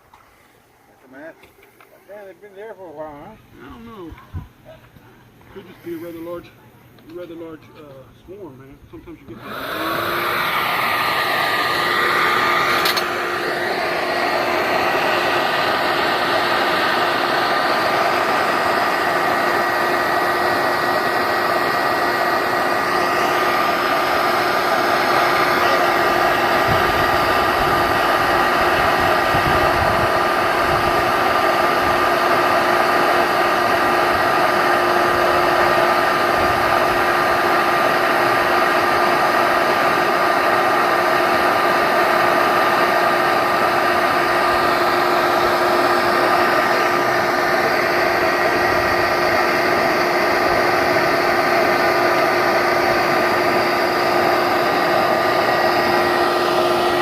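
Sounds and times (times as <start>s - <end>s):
vacuum cleaner motor whine: 7.0s - 57.0s.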